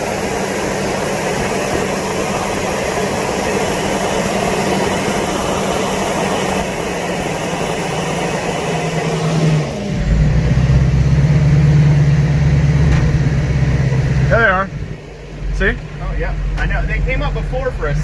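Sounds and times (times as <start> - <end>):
low engine drone: 0.0 - 18.0
pickup engine and road noise: 0.0 - 18.0.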